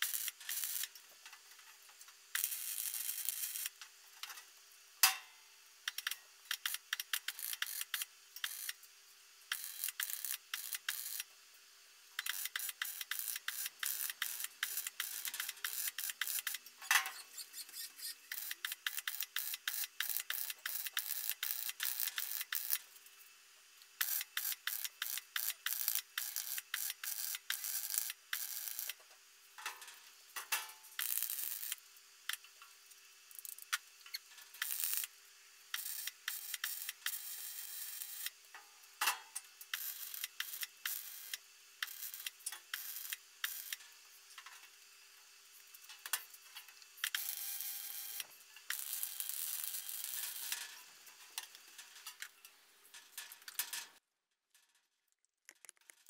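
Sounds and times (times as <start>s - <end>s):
arc welding crackle: 0.0s - 5.2s, 5.8s - 11.4s, 12.2s - 44.8s, 45.4s - 54.0s.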